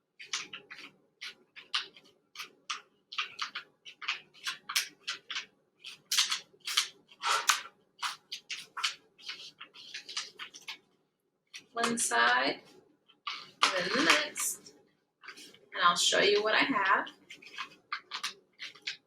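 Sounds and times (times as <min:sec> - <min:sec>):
paper rustling and creasing: 0:00.2 - 0:14.4, 0:16.2 - 0:19.0.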